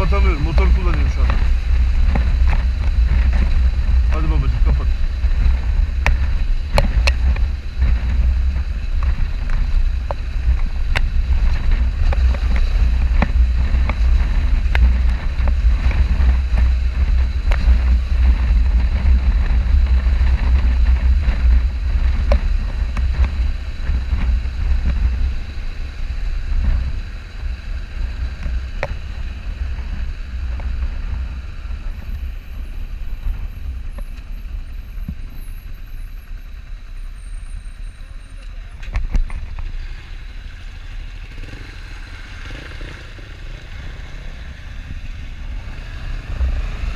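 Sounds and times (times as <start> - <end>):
wind noise on microphone: 0.0 - 37.9
road rumble: 0.0 - 46.9.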